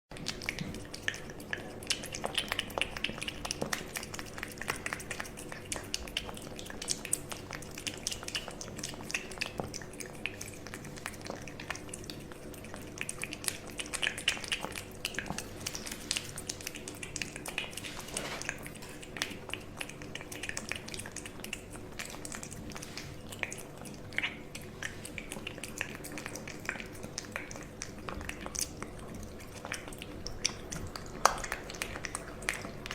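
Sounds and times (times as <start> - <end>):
faint steady hum: 0.1 - 32.9
cat chewing clicks: 0.2 - 32.9.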